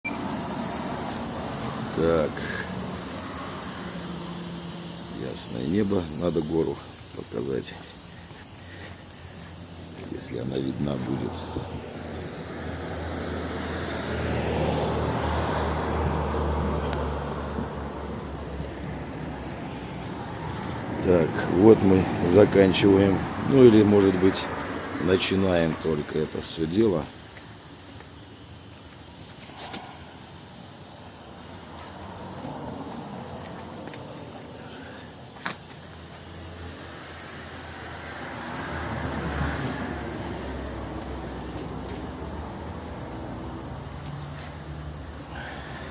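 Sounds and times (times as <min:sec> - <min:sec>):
passing motor vehicle rumble: 0:00.0 - 0:45.9
steady insect hiss: 0:00.0 - 0:45.9.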